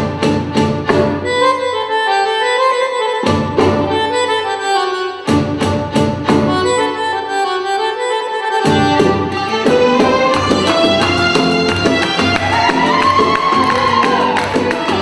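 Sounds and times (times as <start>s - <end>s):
oriental dance music: 0.0s - 15.0s.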